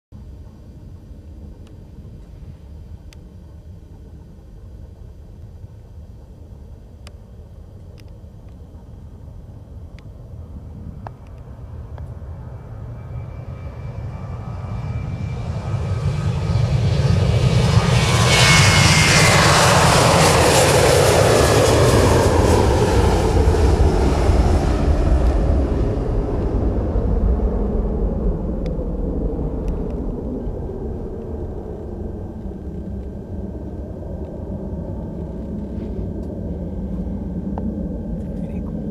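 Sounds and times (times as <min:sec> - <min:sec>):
jet airliner taking off: 0:00.2 - 0:38.9.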